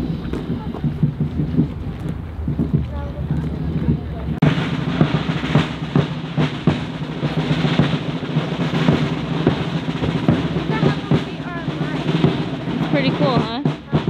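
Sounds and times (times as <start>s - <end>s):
drum-heavy music: 0.0s - 14.0s.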